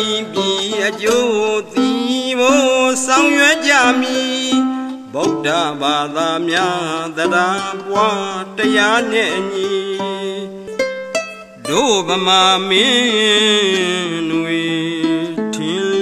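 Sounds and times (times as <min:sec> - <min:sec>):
man singing ornamented phrases: 0:00.0 - 0:10.8, 0:11.4 - 0:16.0
arched harp plucked: 0:00.0 - 0:13.0.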